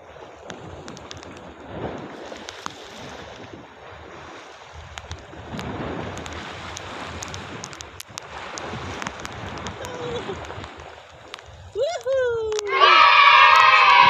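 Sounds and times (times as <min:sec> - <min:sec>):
waves breaking on rocks: 0:00.0 - 0:14.0
wind buffeting microphone: 0:00.0 - 0:14.0.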